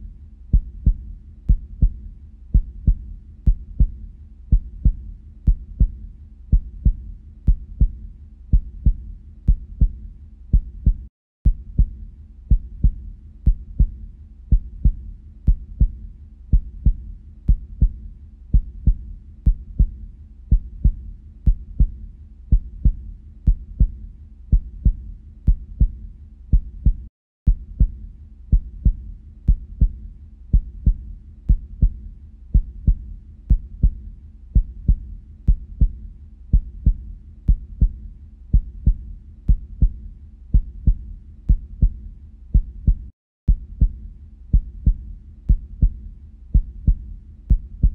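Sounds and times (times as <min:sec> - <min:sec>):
heartbeat thumping: 0:00.0 - 0:47.9.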